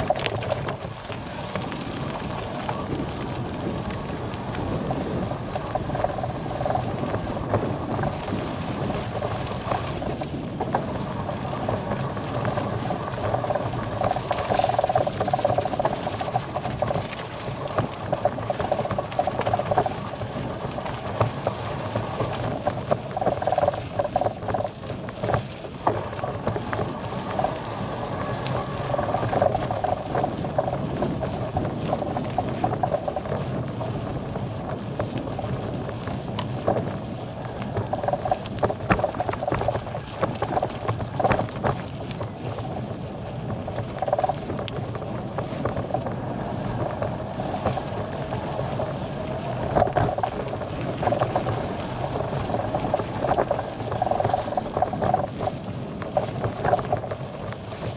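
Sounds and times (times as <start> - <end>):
hum: 0.0 - 57.9
tyre and wind noise: 0.0 - 57.9.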